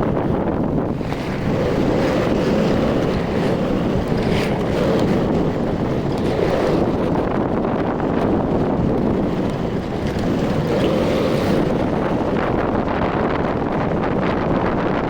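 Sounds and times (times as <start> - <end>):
motorcycle riding noise: 0.0 - 15.0
wind buffeting microphone: 0.0 - 15.0.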